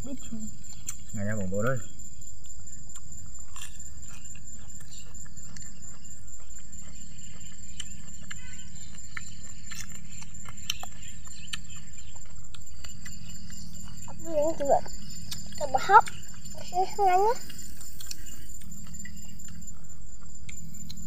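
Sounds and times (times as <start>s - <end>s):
insects trilling: 0.0s - 21.0s
people eating raw vegetables: 0.0s - 21.0s.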